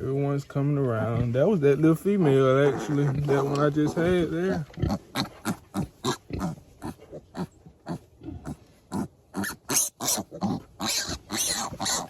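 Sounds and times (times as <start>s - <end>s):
piglets grunting and squealing: 1.0s - 12.0s.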